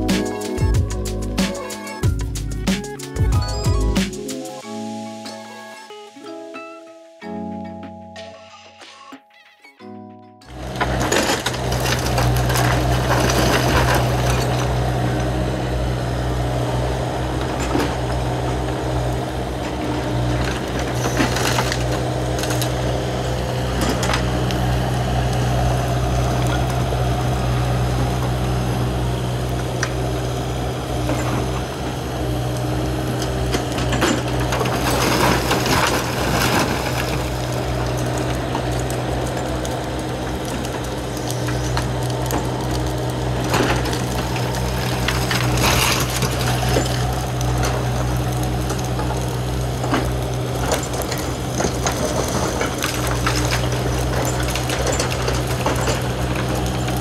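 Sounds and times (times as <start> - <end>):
excavator diesel engine running: 0.0 - 5.8, 10.4 - 57.0
wood splintering: 10.5 - 57.0.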